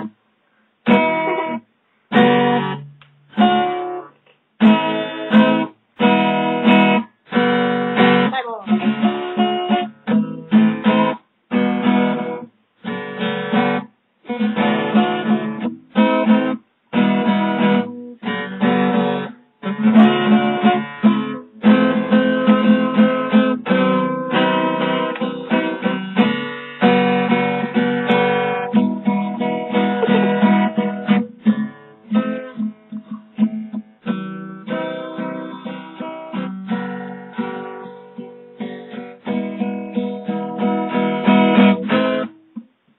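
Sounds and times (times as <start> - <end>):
acoustic guitar strumming chords: 0.0 - 0.2, 0.8 - 42.9.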